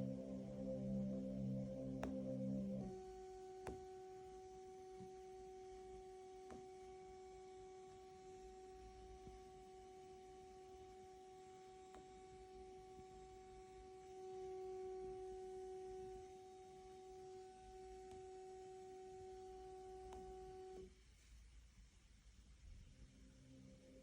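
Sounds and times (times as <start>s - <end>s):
faint electronic whine: 0.0s - 24.0s.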